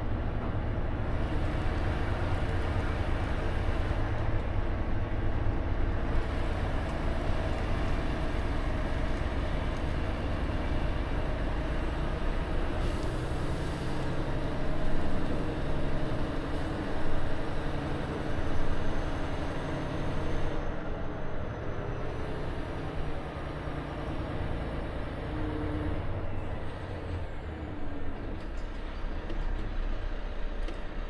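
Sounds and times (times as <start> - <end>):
truck diesel engine at low revs: 0.0 - 31.0.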